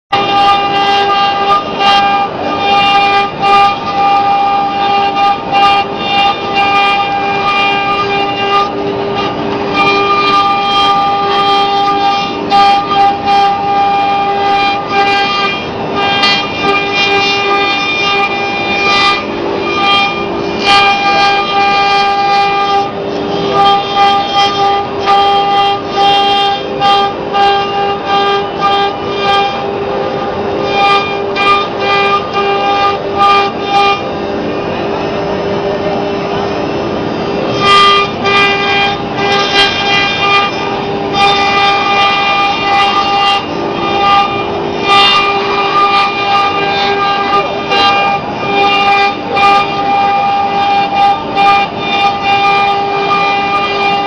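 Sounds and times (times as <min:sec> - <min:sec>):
router spindle whining: 0:00.1 - 0:54.0.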